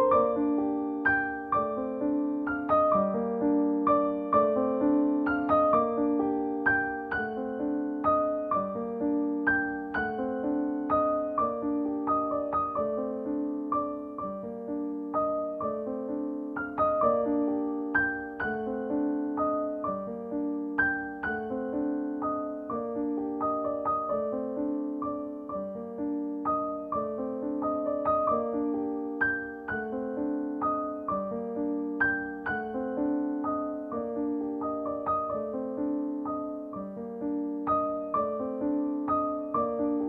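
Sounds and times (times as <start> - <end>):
gentle piano music: 0.0 - 40.0.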